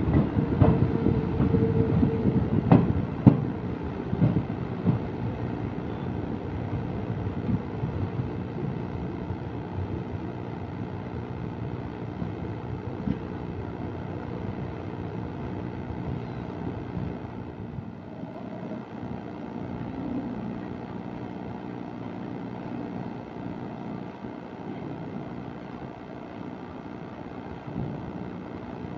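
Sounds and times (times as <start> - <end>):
train wheels running on rails: 0.0 - 28.9.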